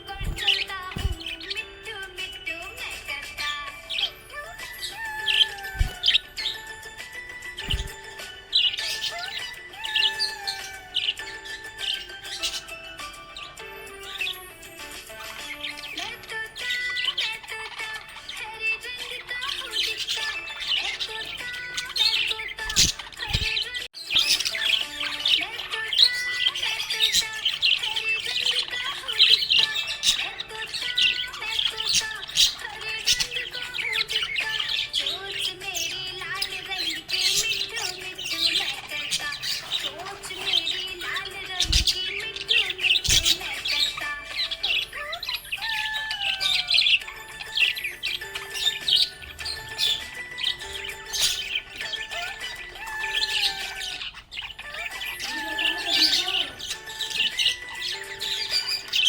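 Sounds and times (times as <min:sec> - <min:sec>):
background music: 0:00.0 - 0:59.0
budgerigar chirping: 0:00.0 - 0:59.0.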